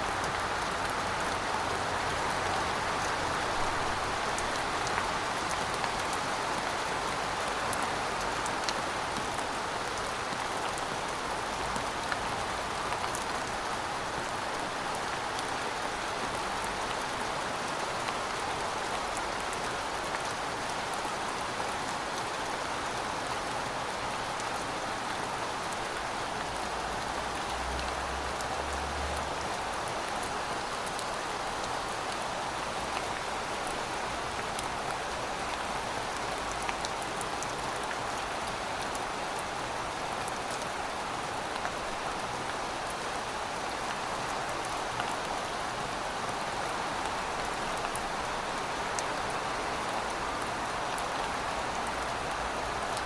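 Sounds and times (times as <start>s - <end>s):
heavy rain pattering: 0.0s - 53.0s.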